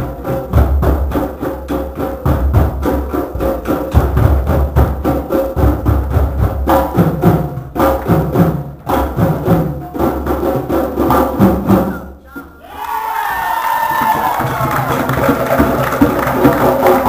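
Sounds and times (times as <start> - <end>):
hand drums playing: 0.0 - 12.5, 13.8 - 17.0.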